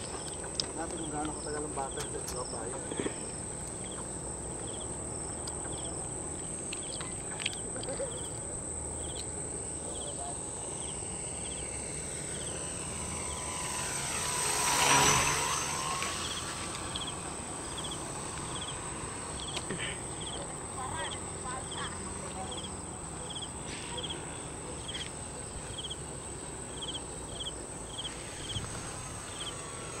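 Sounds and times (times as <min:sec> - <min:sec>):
high insect buzz: 0:00.0 - 0:30.0
insect chirps: 0:00.0 - 0:30.0
model plane propeller flying past: 0:00.0 - 0:30.0.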